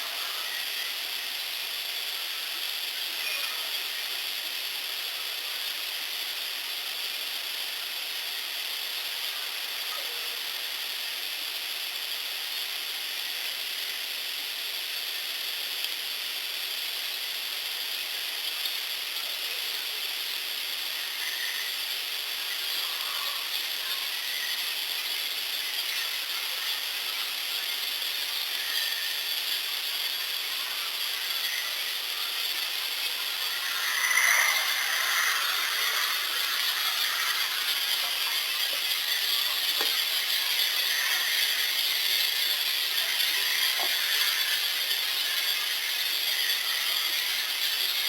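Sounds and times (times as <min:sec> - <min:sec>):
steady high hiss: 0:00.0 - 0:48.0.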